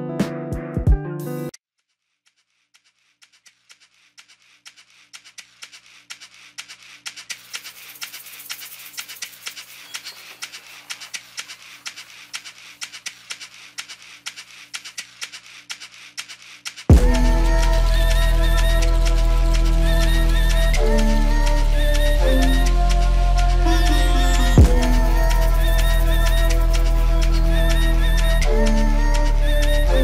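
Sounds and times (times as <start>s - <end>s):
irregular clicking and crackling: 1.8s - 30.0s.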